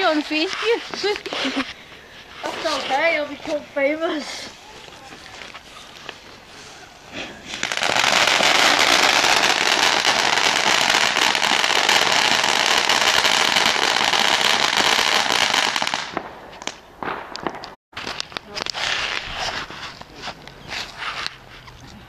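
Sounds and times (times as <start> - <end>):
firework fountain hissing and crackling: 0.0 - 16.3, 18.0 - 20.2.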